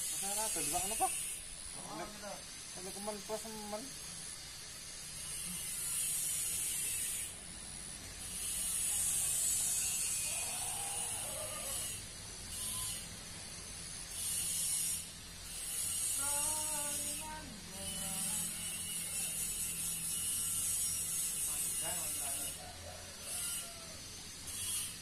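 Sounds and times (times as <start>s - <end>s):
cicadas buzzing: 0.0s - 25.0s.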